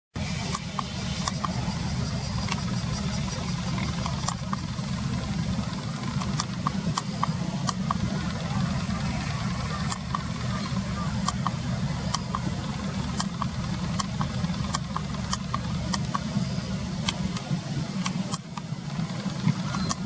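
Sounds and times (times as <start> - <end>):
steady low rumble: 0.2 - 20.0.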